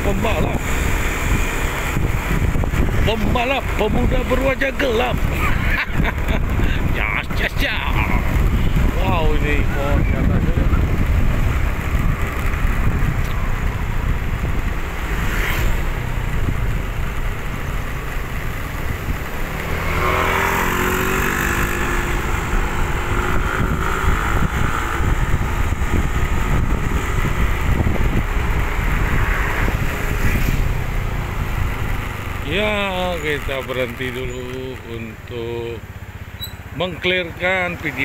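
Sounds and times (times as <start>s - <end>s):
motor vehicle passing: 0.0s - 36.8s
wind and road noise: 0.0s - 38.0s.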